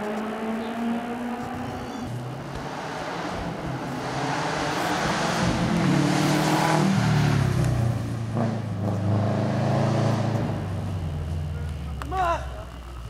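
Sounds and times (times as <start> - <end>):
rally car engine: 0.0 - 13.0.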